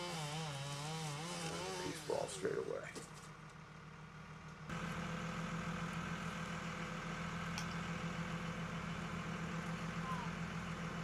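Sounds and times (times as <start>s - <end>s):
truck engine idling: 1.5s - 11.0s.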